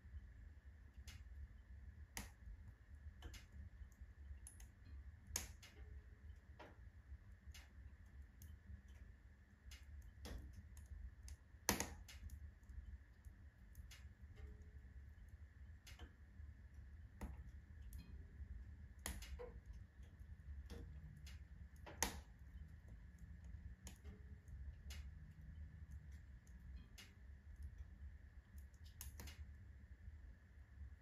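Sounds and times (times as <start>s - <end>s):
low steady rumble: 0.0s - 31.0s
wood fire crackling and popping: 0.1s - 31.0s.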